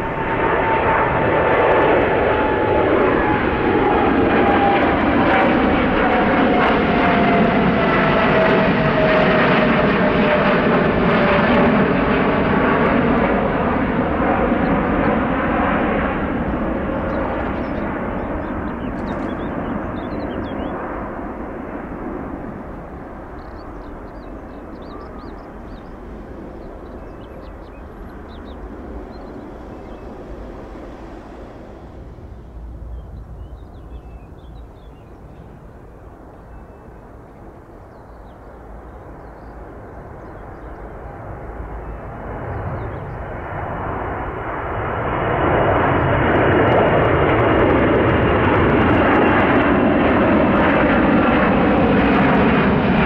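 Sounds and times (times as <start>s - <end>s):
jet engines passing: 0.0s - 53.0s.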